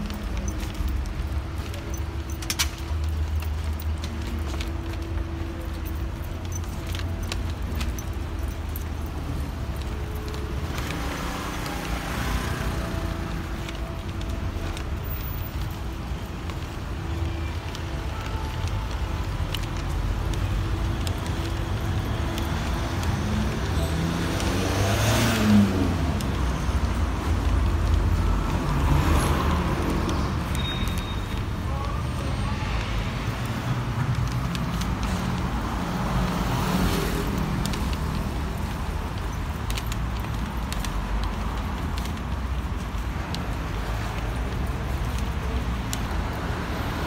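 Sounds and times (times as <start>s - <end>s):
cars passing by: 0.0s - 47.0s
steady low traffic rumble: 0.0s - 47.0s.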